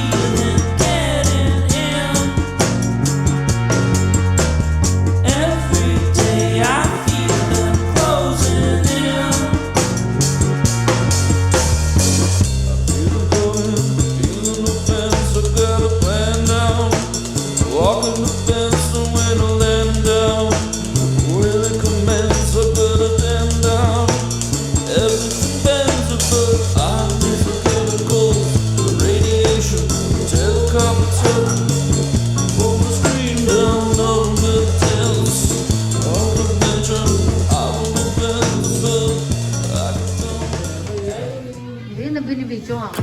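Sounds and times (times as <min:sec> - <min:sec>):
song with drums and bass: 0:00.0 - 0:41.6.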